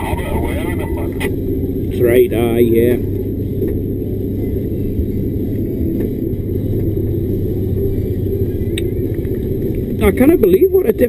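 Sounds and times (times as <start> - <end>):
lorry diesel engine rumble: 0.0 - 11.0.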